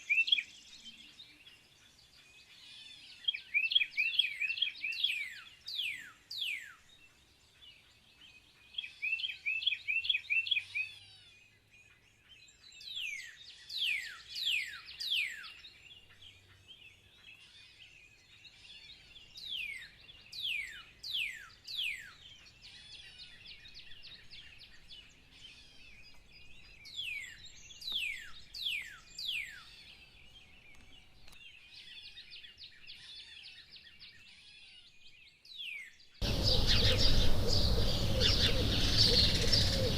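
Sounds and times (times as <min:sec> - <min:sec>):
faint bird chirping: 0:00.0 - 0:39.9
songbirds singing: 0:00.0 - 0:39.9.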